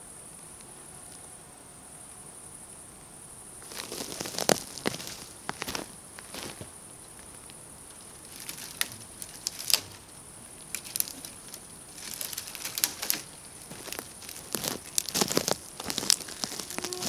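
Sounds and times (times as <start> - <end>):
kindling crackling in wood stove: 2.0 - 17.0.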